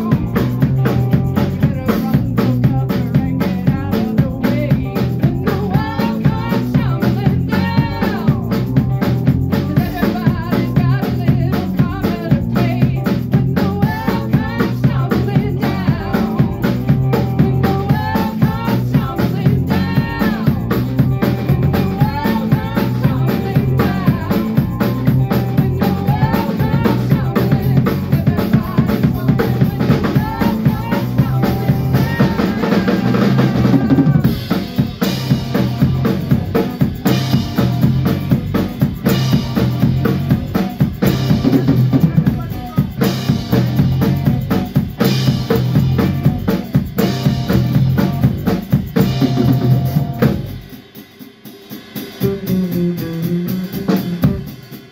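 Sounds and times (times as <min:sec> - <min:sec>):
drum kit beat: 0:00.0 - 0:54.9
instrumental band music: 0:00.0 - 0:54.9.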